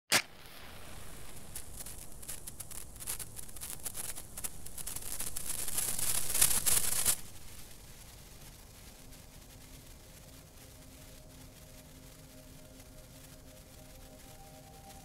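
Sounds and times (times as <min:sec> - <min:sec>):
sparkler crackling: 0:00.1 - 0:15.0.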